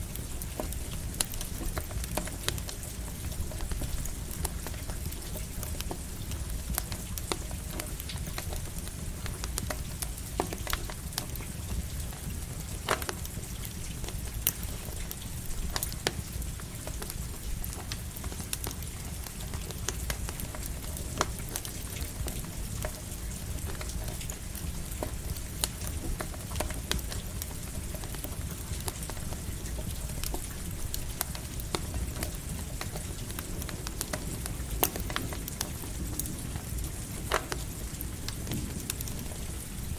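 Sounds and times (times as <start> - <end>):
campfire crackling and popping: 0.0 - 39.9
light rain hiss: 0.0 - 39.9.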